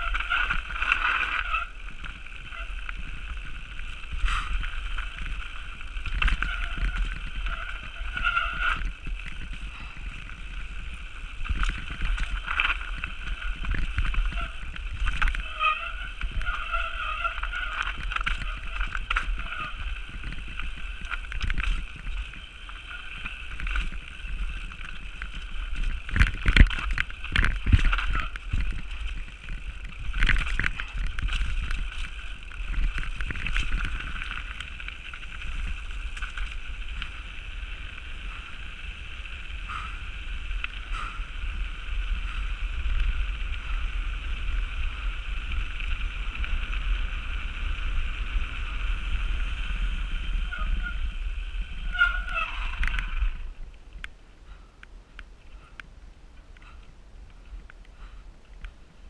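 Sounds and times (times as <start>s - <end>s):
bike tyre noise: 0.0s - 59.0s.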